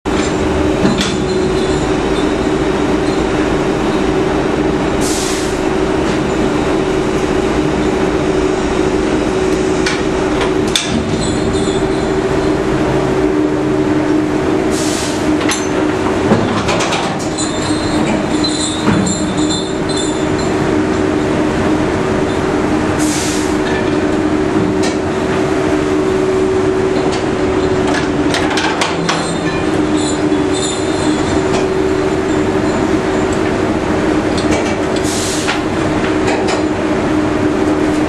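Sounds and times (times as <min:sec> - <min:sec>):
deck machinery droning: 0:00.0 - 0:38.0.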